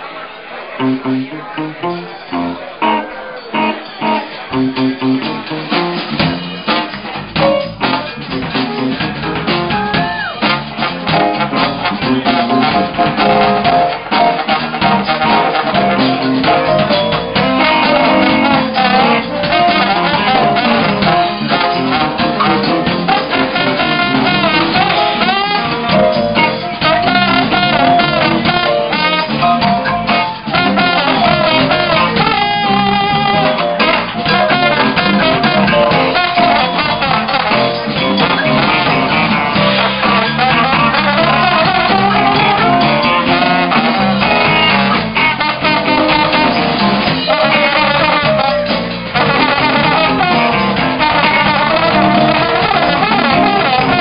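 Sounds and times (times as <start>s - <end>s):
drum kit: 0.8s - 54.0s
electric guitar: 0.8s - 54.0s
trombone lead lines: 0.8s - 54.0s.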